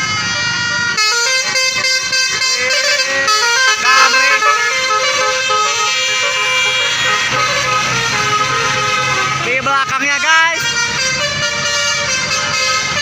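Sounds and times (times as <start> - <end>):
bus horn playing melody: 0.0 - 13.0.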